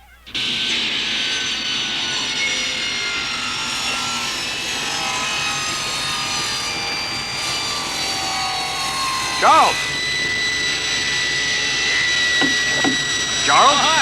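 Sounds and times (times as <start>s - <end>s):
saw cutting through wood: 0.3s - 14.0s.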